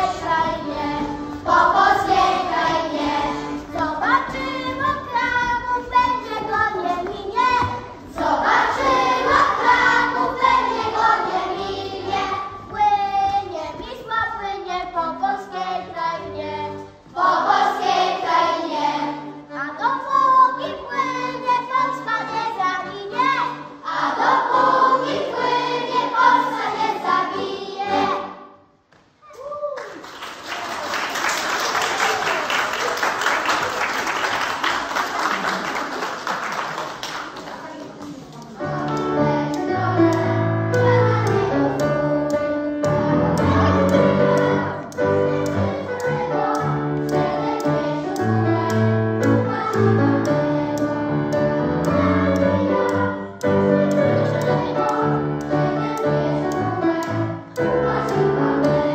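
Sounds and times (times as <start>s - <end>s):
children singing: 0.0s - 28.5s, 38.6s - 58.9s
instrumental accompaniment: 0.0s - 28.9s, 38.5s - 58.9s.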